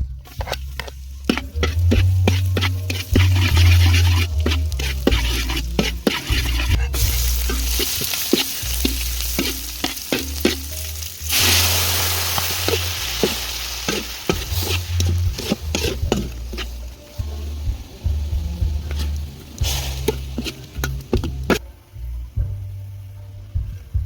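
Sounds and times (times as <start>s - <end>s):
food sizzling in a pan: 0.3s - 21.6s.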